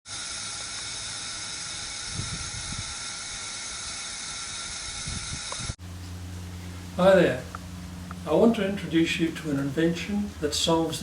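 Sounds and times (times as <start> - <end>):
steady hiss: 0.1 - 11.0.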